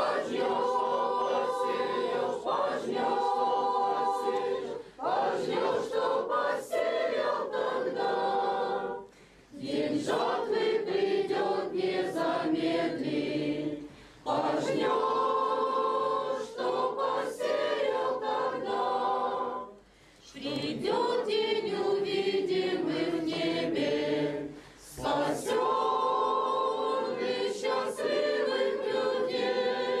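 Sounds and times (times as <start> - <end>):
congregation singing a hymn: 0.0 - 30.0.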